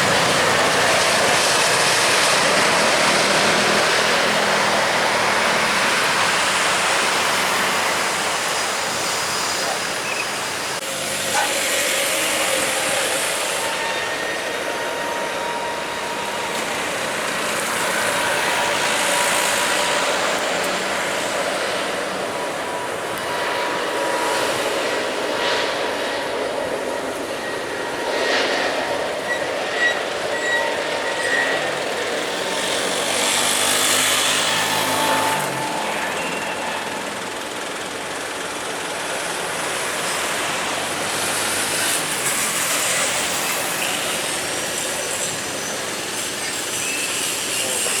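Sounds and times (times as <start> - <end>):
jet engines rushing: 0.0 - 48.0.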